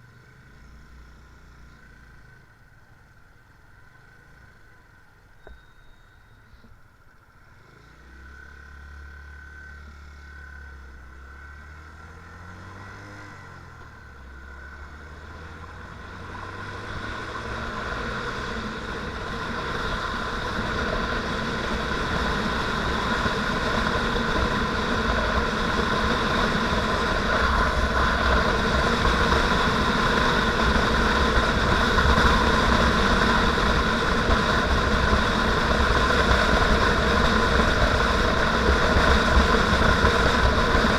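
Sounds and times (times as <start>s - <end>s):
rush of riding noise: 0.0s - 40.9s
motorcycle engine accelerating: 7.3s - 40.9s.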